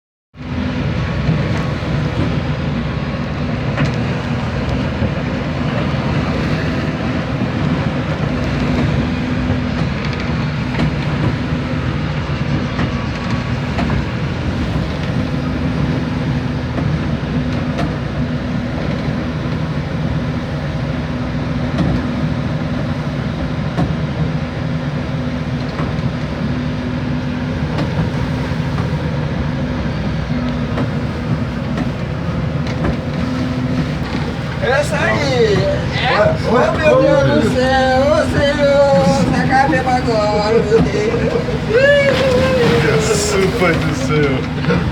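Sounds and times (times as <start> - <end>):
boat engine humming: 0.3 - 44.9
rushing wind and sea: 0.3 - 44.9.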